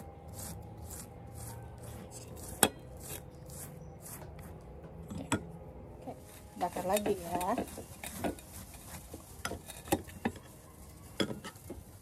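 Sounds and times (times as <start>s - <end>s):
wet pastry brush strokes: 0.0s - 4.8s, 6.0s - 12.0s.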